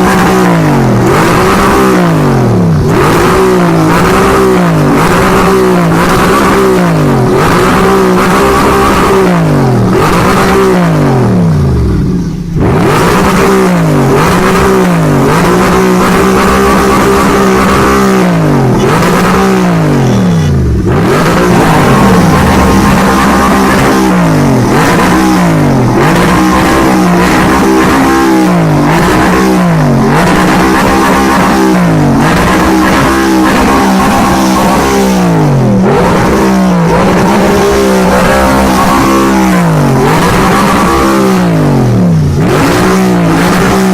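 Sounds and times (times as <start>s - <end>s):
sports car engine revving: 0.0s - 43.9s.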